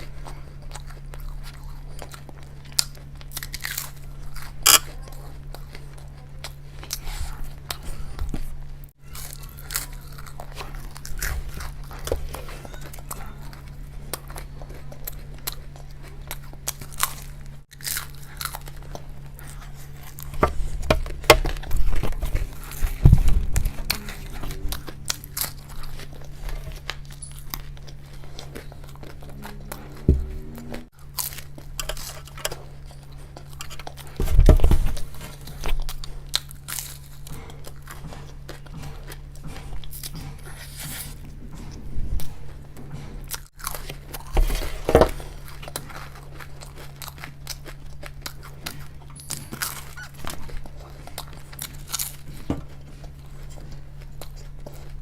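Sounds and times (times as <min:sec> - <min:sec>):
crunching and chewing crisp food: 0:00.0 - 0:55.0
low steady hum: 0:00.0 - 0:55.0.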